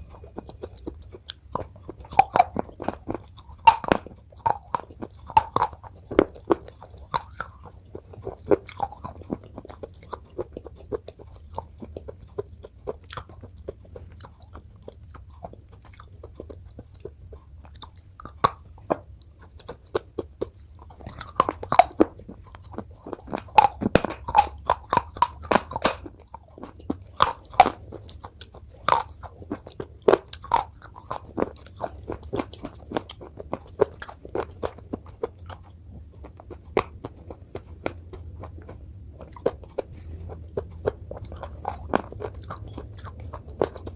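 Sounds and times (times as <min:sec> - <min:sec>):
chewing: 0:00.0 - 0:43.9.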